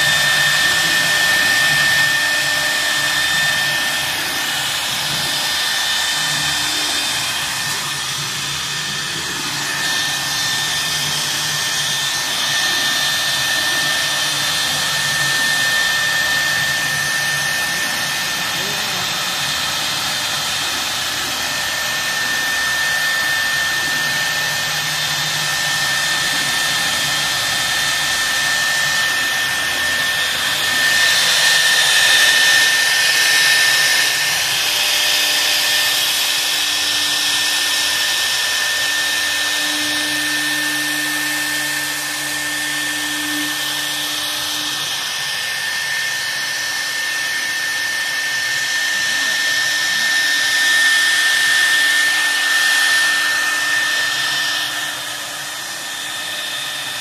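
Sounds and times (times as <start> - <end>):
hiss of bit cutting: 0.0 - 57.0
router spindle whining: 0.0 - 57.0.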